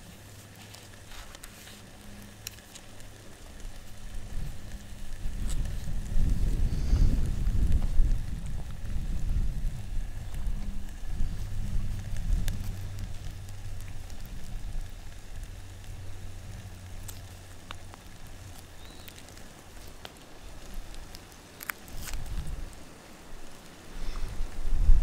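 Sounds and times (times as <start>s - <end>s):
campfire crackling and popping: 0.0s - 25.0s
steady low hum: 0.0s - 25.0s.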